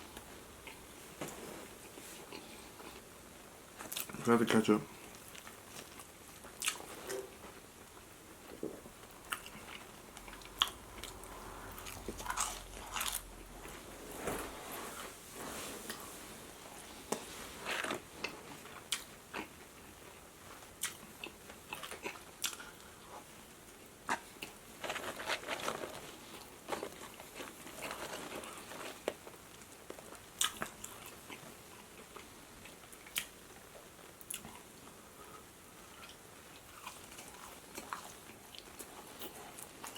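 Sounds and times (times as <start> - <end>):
crunching and chewing food: 0.0 - 3.1, 3.7 - 14.5, 15.8 - 39.9.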